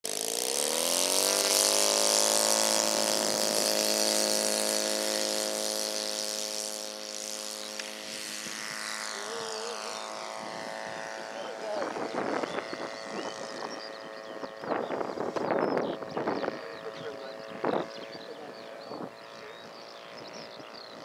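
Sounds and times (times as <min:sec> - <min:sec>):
model plane motor and propeller: 0:00.0 - 0:21.0.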